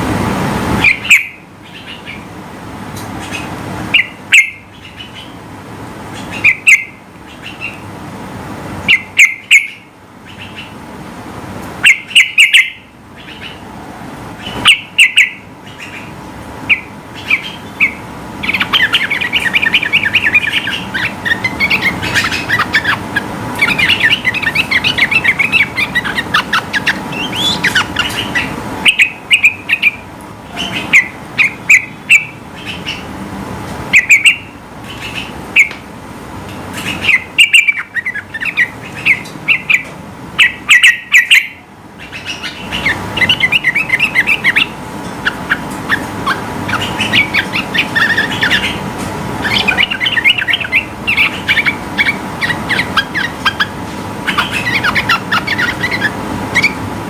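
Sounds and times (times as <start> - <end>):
bird singing chattering phrases: 0.8 - 8.0, 8.8 - 10.9, 11.8 - 13.7, 14.3 - 33.1, 33.9 - 35.8, 36.6 - 56.9.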